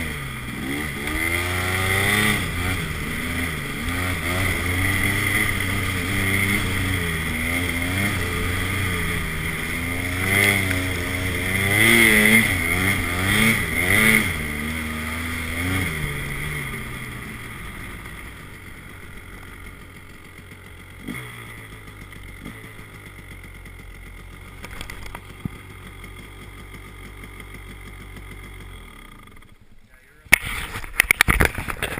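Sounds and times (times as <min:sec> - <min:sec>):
snowmobile engine revving and idling: 0:00.0 - 0:31.9.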